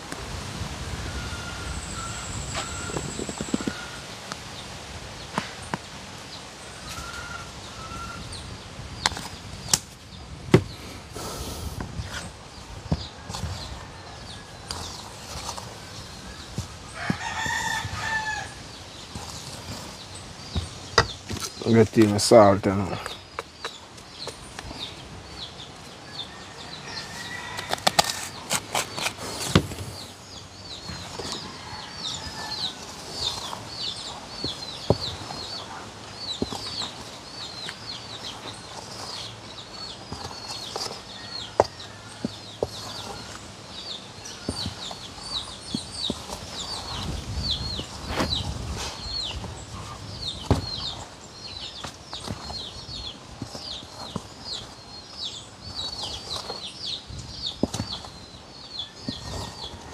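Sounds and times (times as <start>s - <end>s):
bird chirping: 1.1s - 59.9s.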